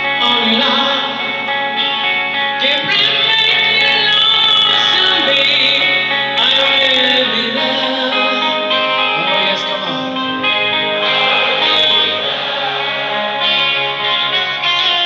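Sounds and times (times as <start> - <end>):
electric guitars: 0.0 - 15.0
live rock band playing ballad: 0.0 - 15.0
male lead singer: 0.0 - 15.0.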